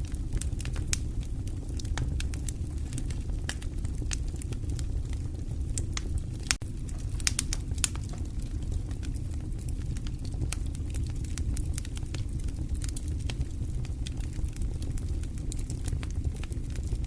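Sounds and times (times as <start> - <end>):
fire crackling and popping: 0.0 - 17.0
fire rumbling in fireplace: 0.0 - 17.0.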